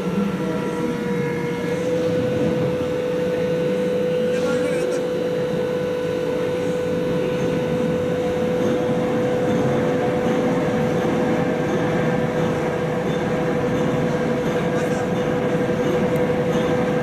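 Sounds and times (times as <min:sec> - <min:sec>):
machine running with humming tone: 0:00.0 - 0:17.0.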